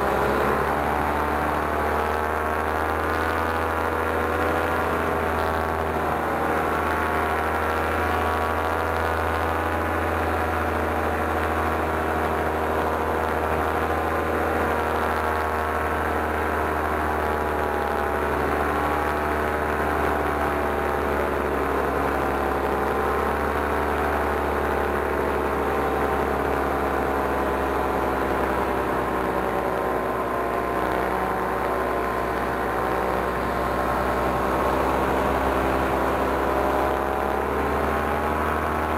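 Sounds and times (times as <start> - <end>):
paramotor engine droning: 0.0 - 38.9.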